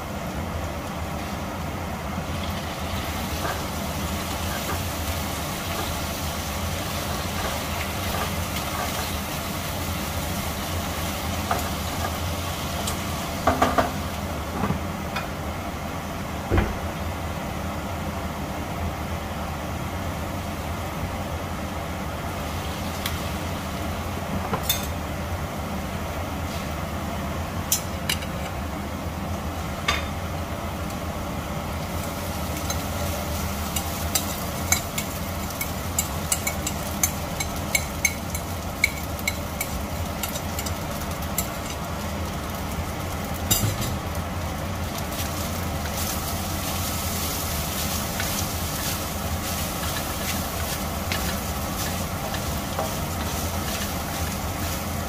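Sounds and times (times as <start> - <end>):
food sizzling in oil: 0.0 - 16.1, 19.8 - 55.0
steady low hum: 0.0 - 55.0.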